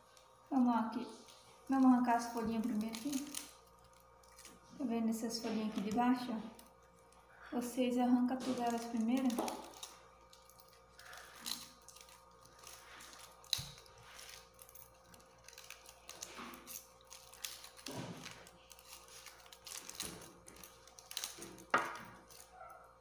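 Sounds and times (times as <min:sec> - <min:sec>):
dry leaves tearing and crackling: 0:00.0 - 0:07.2, 0:08.4 - 0:22.6.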